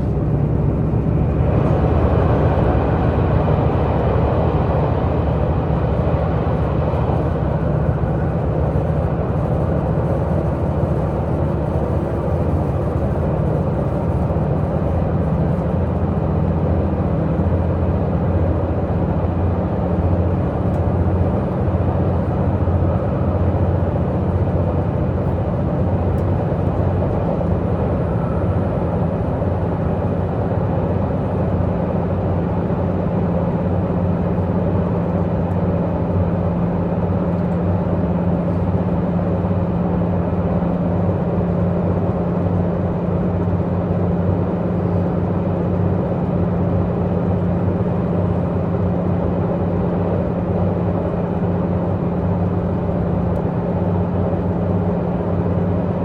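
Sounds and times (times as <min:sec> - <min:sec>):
diesel engine drone: 0:00.0 - 0:56.0
wheels rumbling on rail: 0:00.0 - 0:56.0.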